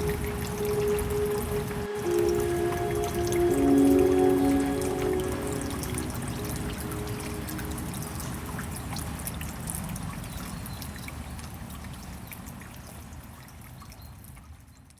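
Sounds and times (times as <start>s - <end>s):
rain drips: 0.0s - 14.9s
water trickling: 0.0s - 14.9s.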